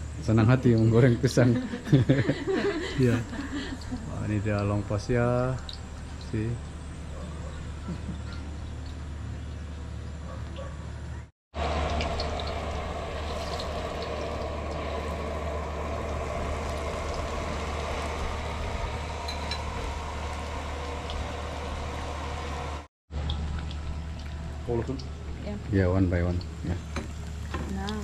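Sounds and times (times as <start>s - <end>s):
food deep-frying in hot oil: 0.0s - 10.2s, 11.6s - 28.0s
low hum: 0.0s - 28.0s.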